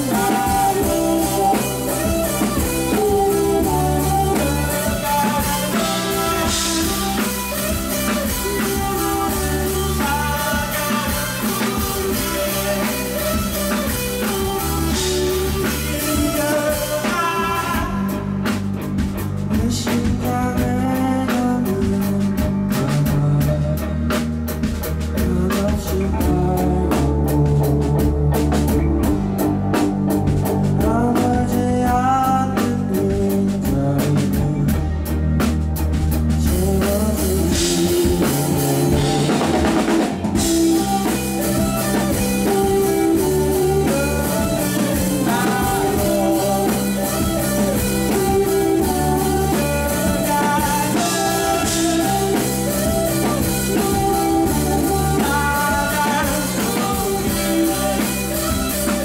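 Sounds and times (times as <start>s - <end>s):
person singing: 0.0s - 24.4s, 25.1s - 29.8s, 30.7s - 35.4s, 36.4s - 59.0s
live rock band playing: 0.0s - 59.0s.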